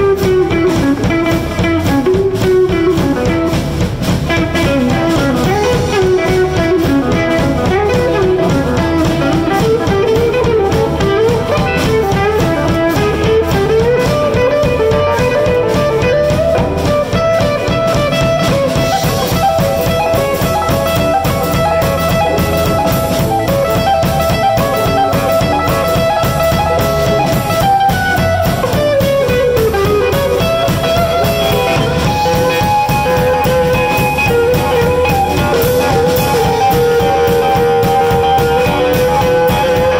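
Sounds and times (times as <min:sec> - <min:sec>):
lead guitar bending notes: 0:00.0 - 0:39.9
live blues band: 0:00.0 - 0:39.9.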